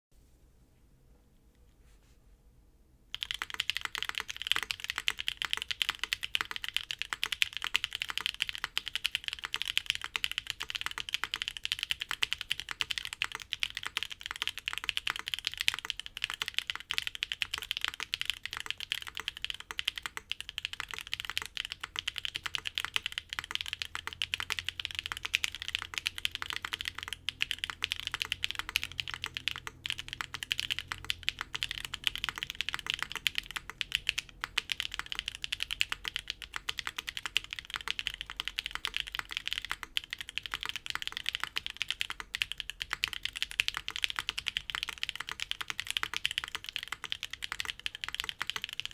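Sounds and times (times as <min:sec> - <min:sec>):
fast typing on mechanical keyboard: 0:03.1 - 0:48.9.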